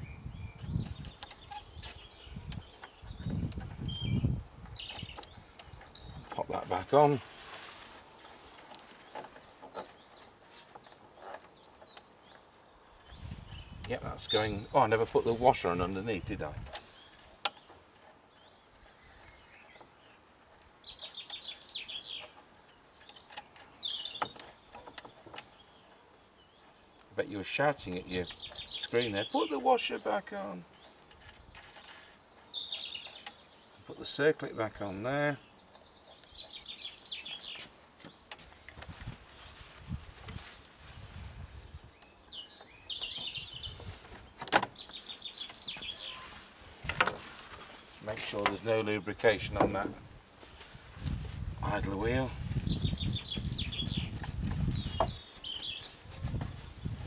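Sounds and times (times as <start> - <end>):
bird chirping: 0.0 - 40.5, 41.1 - 57.0.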